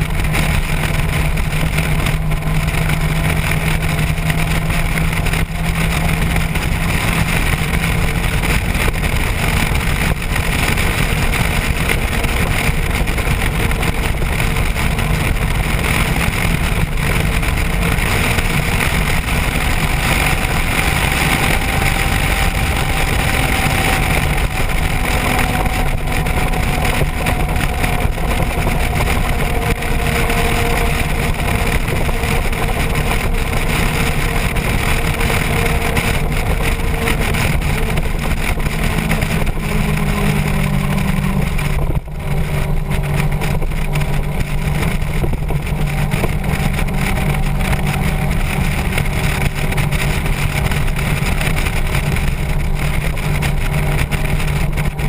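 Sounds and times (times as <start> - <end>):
motorcycle engine cruising: 0.0 - 55.0
wind rushing: 0.0 - 55.0.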